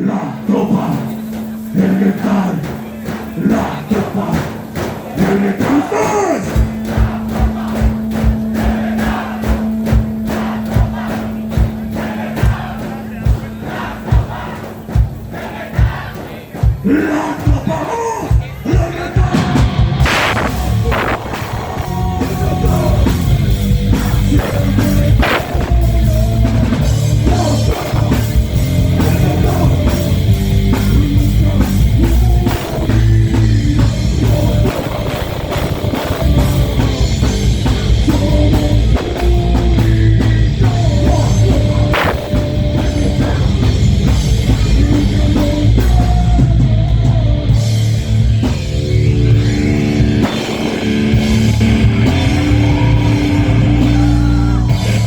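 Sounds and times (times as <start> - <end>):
electric guitars: 0.0 - 15.9, 16.9 - 55.0
heavy metal band playing live: 0.0 - 55.0
pounding drum kit: 0.0 - 55.0.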